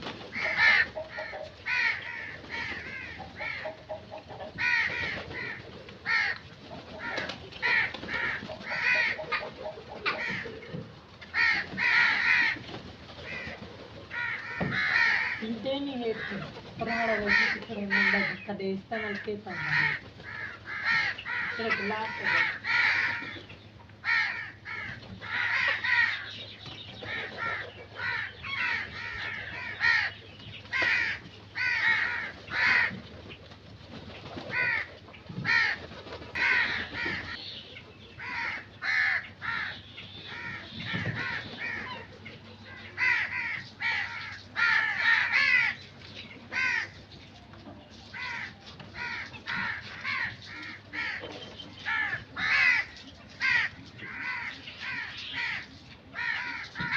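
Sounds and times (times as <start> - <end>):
crows cawing: 0.2 - 33.1, 34.4 - 37.5, 38.2 - 45.8, 46.5 - 47.0, 48.1 - 56.9.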